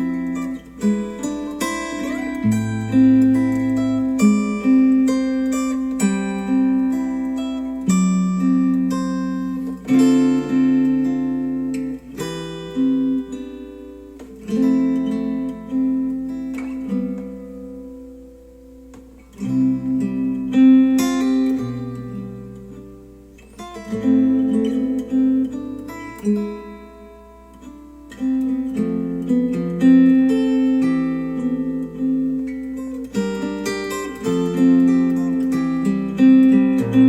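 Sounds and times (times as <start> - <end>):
acoustic guitar strumming chords: 0.0 - 37.0.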